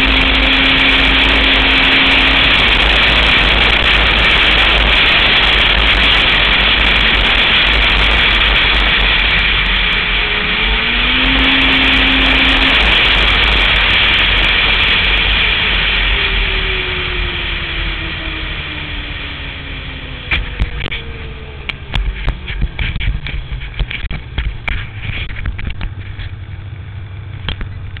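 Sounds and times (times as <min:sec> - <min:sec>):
snowmobile engine running: 0:00.0 - 0:28.0.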